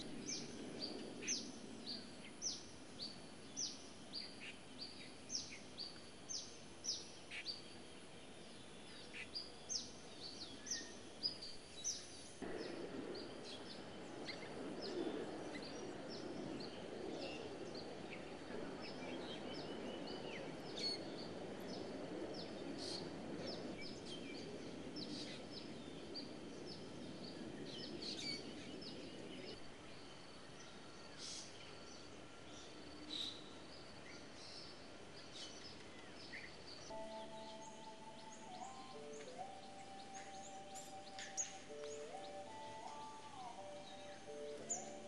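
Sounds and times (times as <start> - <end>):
low steady background noise: 0.0 - 45.0
small birds chirping: 0.0 - 45.0.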